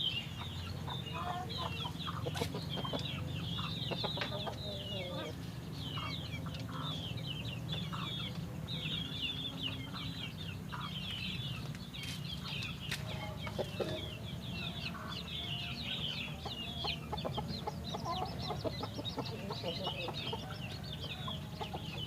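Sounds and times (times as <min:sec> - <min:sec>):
chickens clucking: 0:00.0 - 0:22.0
small birds chirping: 0:00.0 - 0:22.0.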